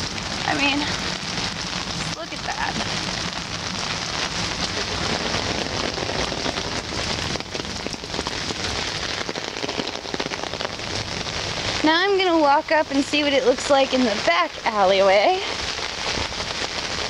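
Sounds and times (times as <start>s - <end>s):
heavy rain on umbrella: 0.0s - 17.0s.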